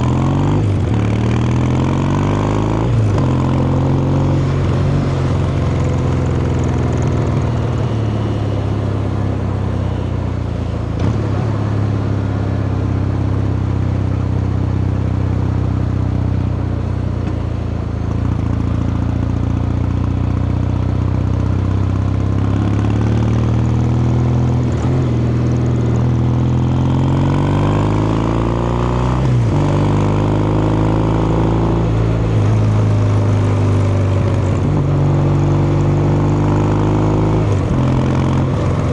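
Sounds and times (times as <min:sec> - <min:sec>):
motorcycle engine revving: 0:00.0 - 0:16.1, 0:16.9 - 0:38.9.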